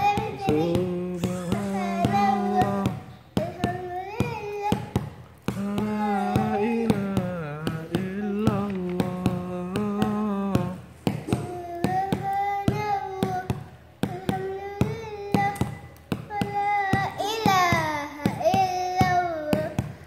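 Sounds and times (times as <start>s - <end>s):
boy singing: 0.0s - 20.0s
steady percussive beat: 0.0s - 20.0s.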